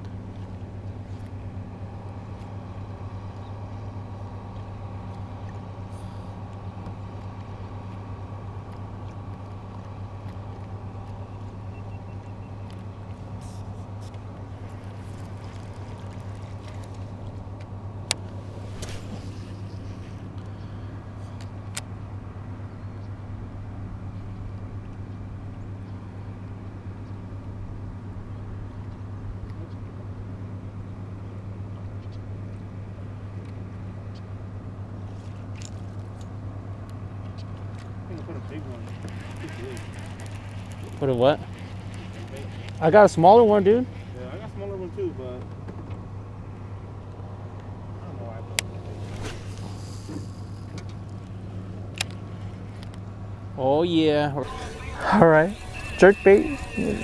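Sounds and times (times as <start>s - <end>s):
low motor hum: 0.0s - 57.0s.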